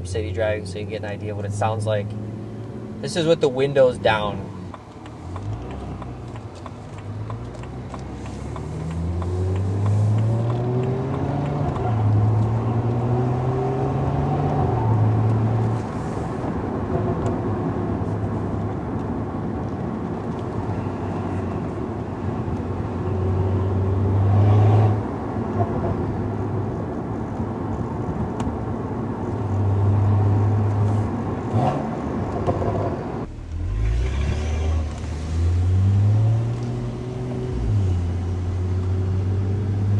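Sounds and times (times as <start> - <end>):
car engine accelerating: 0.2 - 27.4, 28.3 - 39.9.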